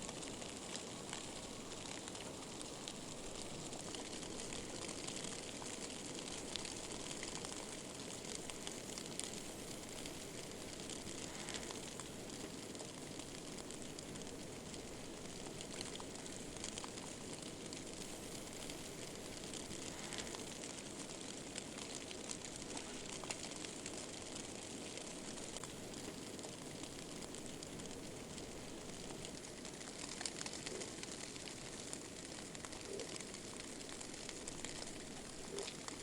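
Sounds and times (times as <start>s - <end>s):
faint ticks: 0.1s - 36.0s.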